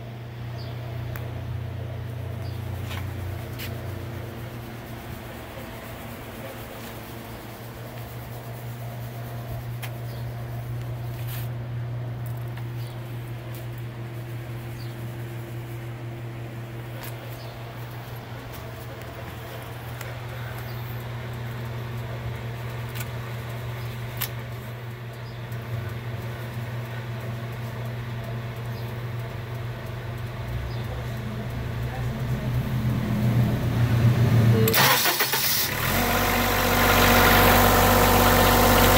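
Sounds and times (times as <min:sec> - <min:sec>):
generator engine hum: 0:00.0 - 0:38.9.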